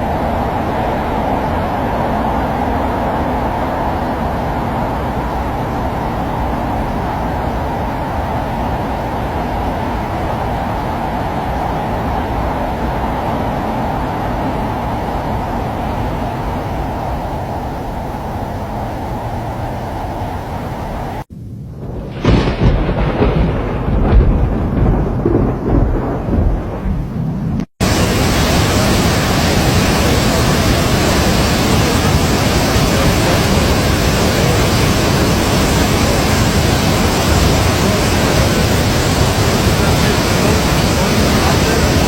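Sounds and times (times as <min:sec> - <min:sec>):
heavy rain rushing: 0:00.0 - 0:42.0.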